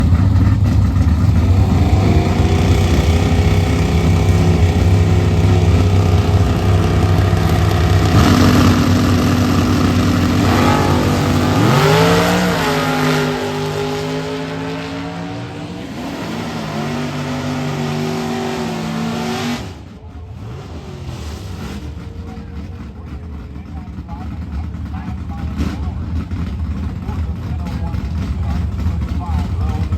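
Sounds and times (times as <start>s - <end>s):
drag racing car engine: 0.0s - 29.9s.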